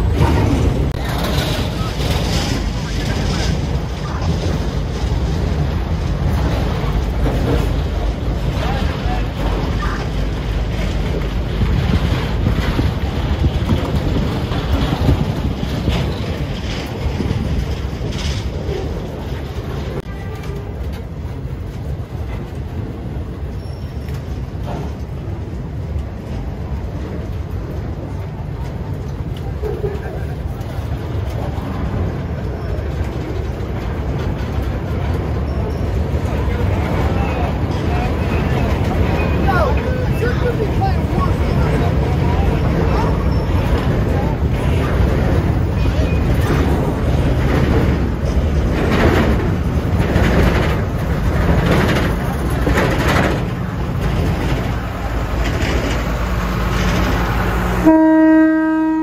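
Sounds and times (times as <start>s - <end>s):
steel wheels rumbling on track: 0.0s - 59.0s.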